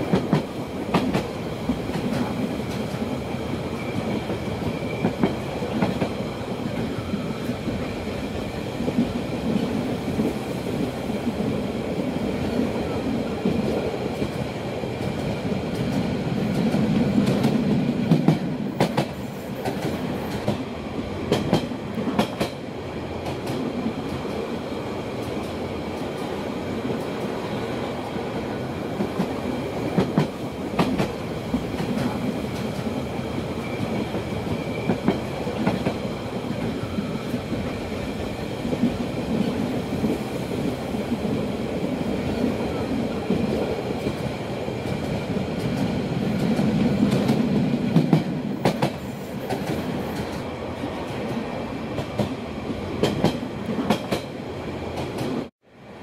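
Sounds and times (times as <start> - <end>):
train wheels rumbling on rail: 0.0 - 55.5.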